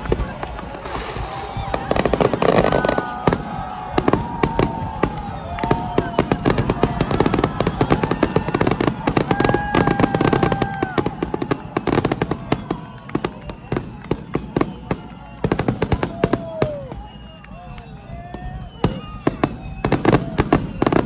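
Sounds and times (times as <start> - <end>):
fireworks crackling and bangs: 0.0 - 21.0
fireworks whistling: 0.0 - 21.0.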